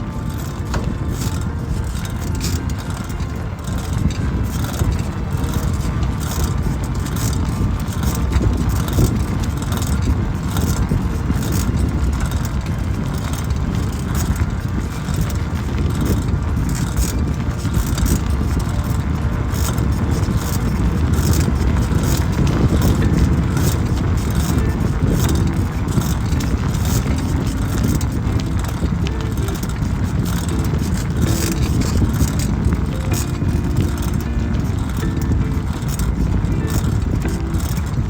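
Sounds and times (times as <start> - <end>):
light rattling: 0.0 - 38.0
tyre rumble: 0.0 - 38.0
wind buffeting microphone: 0.0 - 38.0.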